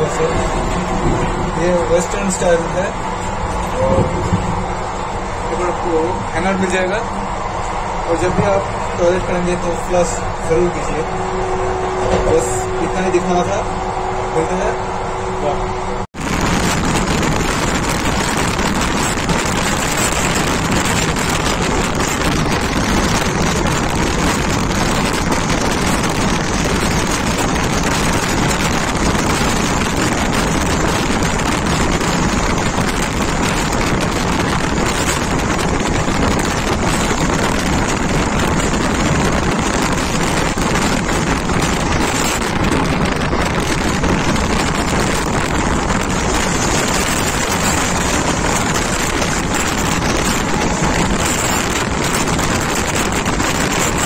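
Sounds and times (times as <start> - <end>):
train running noise: 0.0 - 54.0
wind rushing on microphone: 0.0 - 54.0.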